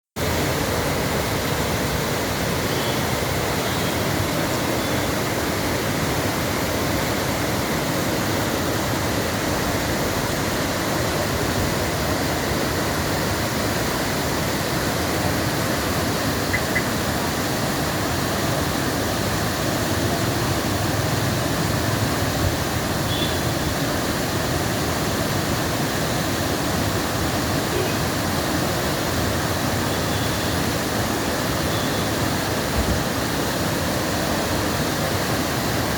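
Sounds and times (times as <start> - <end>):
waterfall rushing: 0.2 - 35.9.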